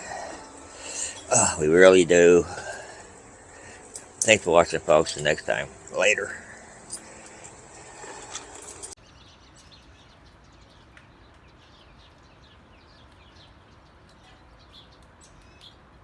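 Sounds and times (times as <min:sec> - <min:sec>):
faint birds chirping: 0:00.0 - 0:16.0
steady low hiss: 0:00.0 - 0:16.0.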